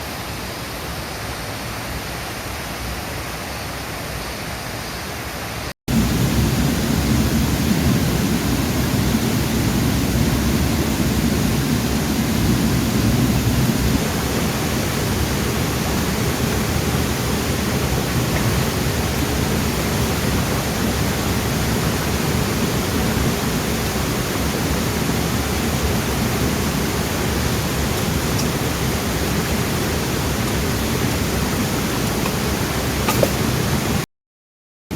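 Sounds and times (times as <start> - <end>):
running water rushing: 0.0 - 34.0.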